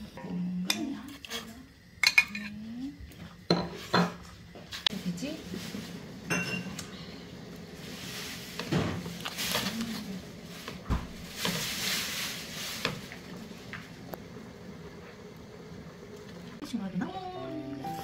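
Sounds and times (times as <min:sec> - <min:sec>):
bubbling broth: 0:03.1 - 0:18.0.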